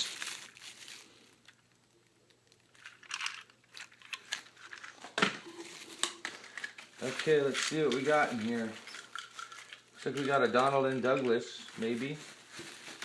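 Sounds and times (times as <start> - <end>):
plastic toys rummaged in box: 0.0 - 1.6, 2.6 - 13.0
packaging crinkling: 0.0 - 13.0.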